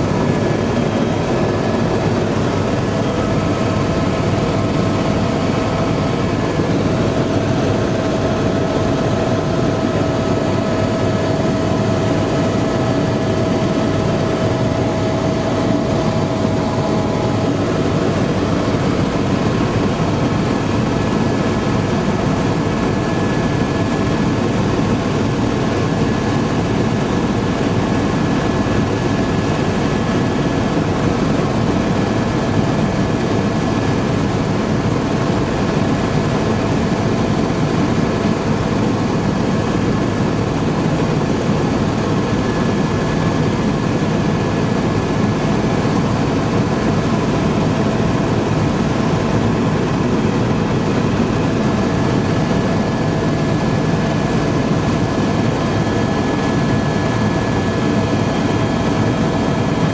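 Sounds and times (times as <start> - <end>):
constant high whine: 0.0 - 59.9
helicopter engine and rotor drone: 0.0 - 59.9.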